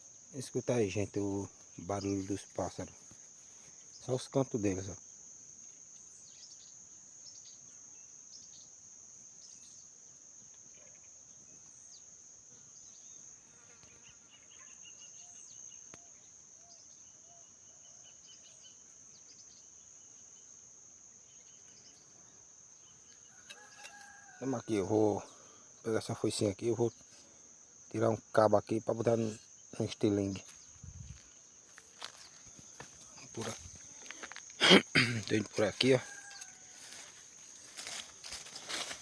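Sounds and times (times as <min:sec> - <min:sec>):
crickets droning: 0:00.0 - 0:39.0.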